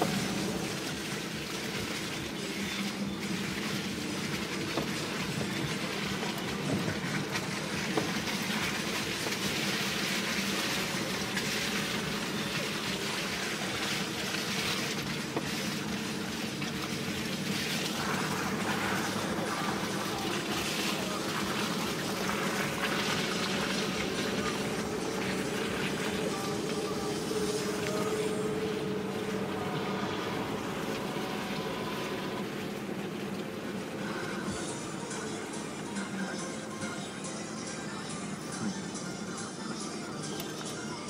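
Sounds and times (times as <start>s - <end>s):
vehicle engine drone: 0.0s - 41.0s.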